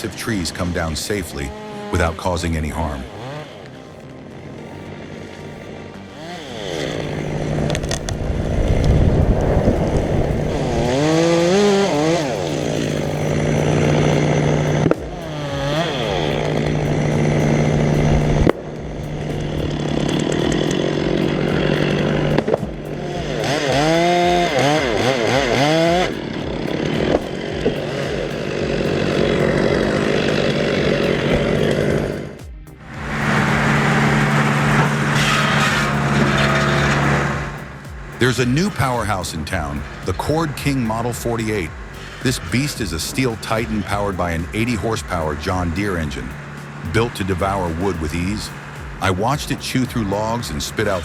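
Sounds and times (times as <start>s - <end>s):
chainsaws revving cutting wood: 0.0s - 51.0s.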